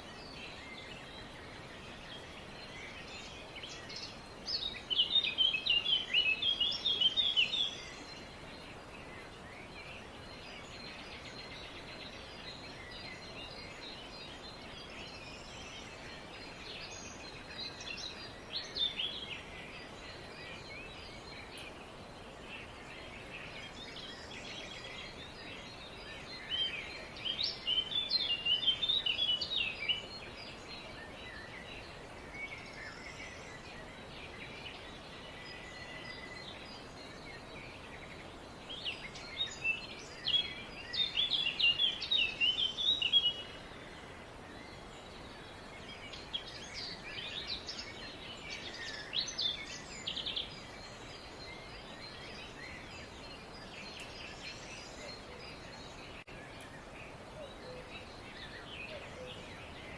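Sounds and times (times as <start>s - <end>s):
songbirds chirping: 0.0s - 59.9s
steady background hiss: 0.0s - 59.9s.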